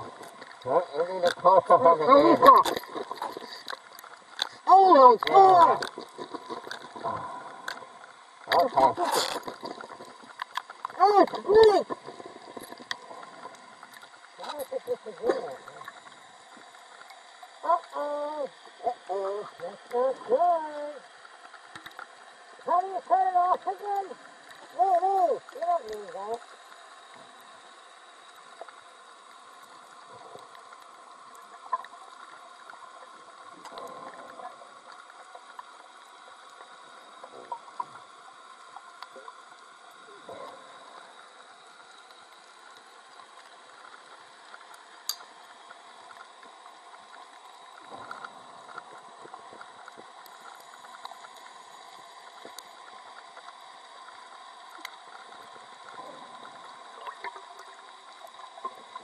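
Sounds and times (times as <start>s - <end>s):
soft gurgles: 0.0s - 59.0s
underwater low hiss: 0.0s - 59.0s.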